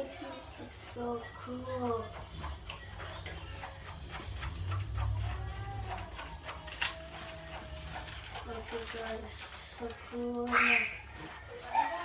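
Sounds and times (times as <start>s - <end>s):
wet squishing stirring strokes: 0.0s - 12.0s.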